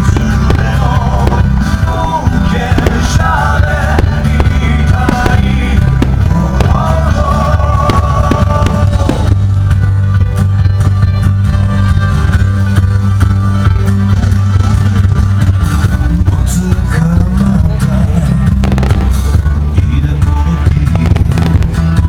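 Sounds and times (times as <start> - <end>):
rock music with guitar and bass: 0.0 - 22.0.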